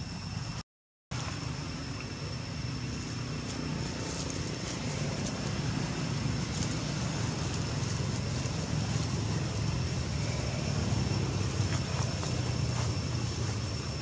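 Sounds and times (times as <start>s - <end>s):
faint high whine: 0.0s - 14.0s
low outdoor rumble: 0.0s - 14.0s.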